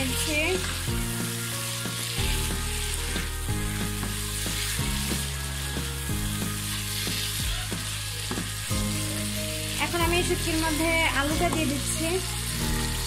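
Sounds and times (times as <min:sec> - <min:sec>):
food sizzling in a wok: 0:00.0 - 0:13.0
spatula stirring in wok: 0:00.4 - 0:11.0.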